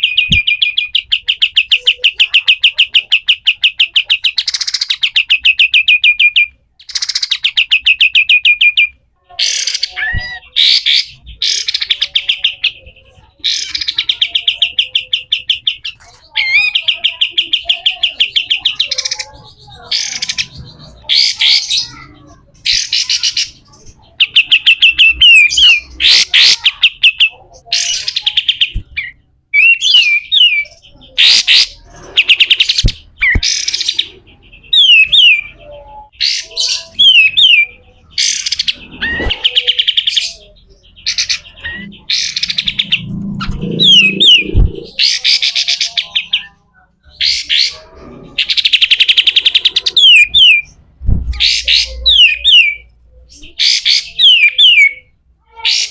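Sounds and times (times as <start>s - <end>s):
bird harsh chattering: 0.0s - 55.9s.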